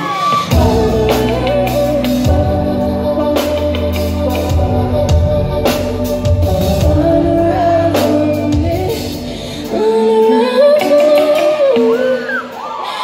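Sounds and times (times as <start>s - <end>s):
live band playing: 0.0s - 13.0s
woman singing: 0.0s - 13.0s.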